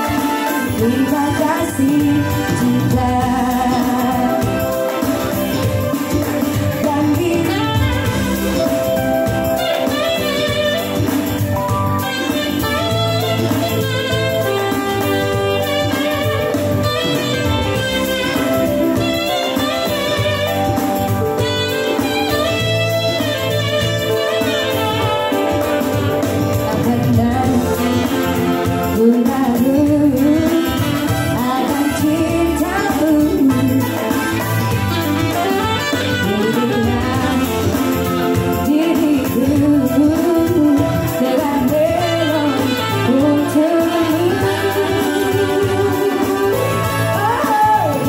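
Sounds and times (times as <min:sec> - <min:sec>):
woman singing into a microphone: 0:00.0 - 0:21.1, 0:21.7 - 0:48.0
keyboard backing: 0:00.0 - 0:48.0
saxophone melody: 0:00.0 - 0:48.0.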